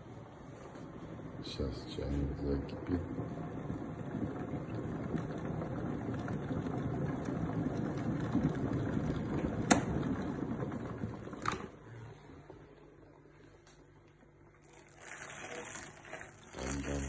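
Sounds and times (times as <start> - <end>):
kettle bubbling: 0.0 - 13.2, 14.4 - 17.0.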